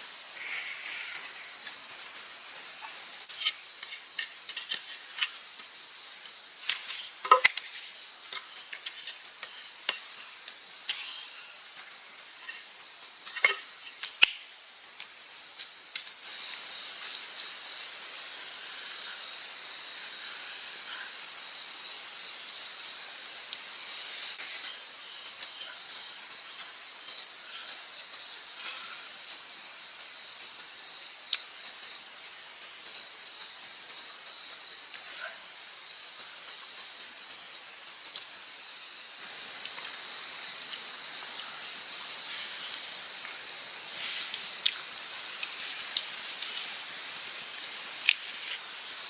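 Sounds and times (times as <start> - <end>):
insects buzzing: 0.0 - 49.0.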